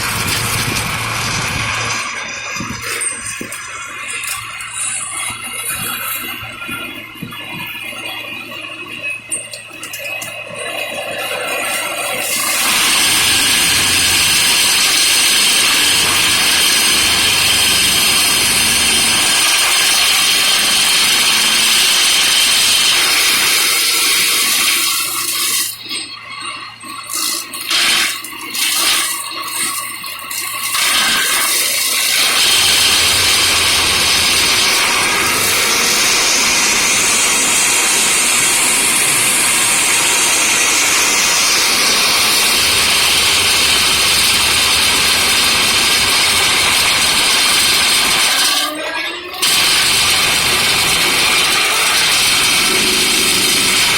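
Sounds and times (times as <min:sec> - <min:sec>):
heavy machinery running: 0:00.0 - 0:53.9.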